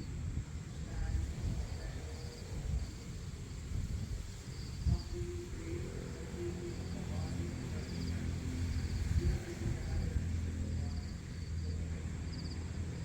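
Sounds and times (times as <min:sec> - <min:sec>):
crickets chirping: 0:00.0 - 0:13.0
low outdoor rumble: 0:00.0 - 0:13.0.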